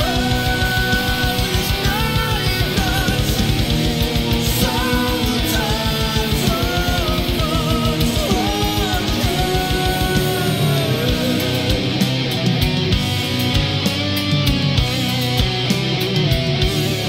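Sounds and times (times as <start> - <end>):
rapid kick drum: 0.0 - 13.8
distorted guitars: 0.0 - 17.0.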